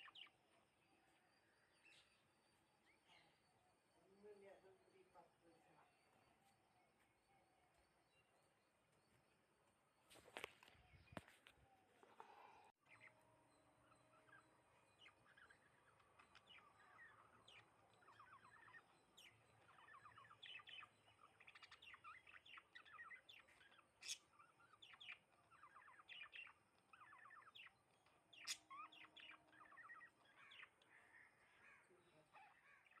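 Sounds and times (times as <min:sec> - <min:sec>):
sparrows chirping: 0:00.0 - 0:09.5, 0:10.1 - 0:33.0.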